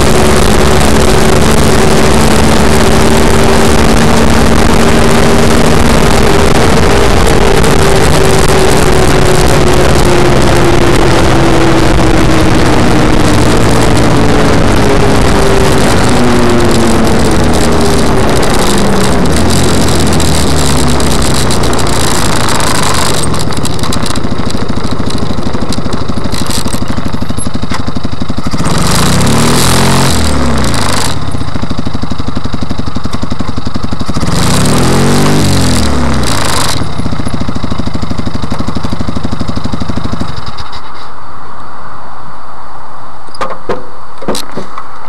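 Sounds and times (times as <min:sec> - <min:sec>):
buggy engine idling and revving: 0:00.0 - 0:41.1.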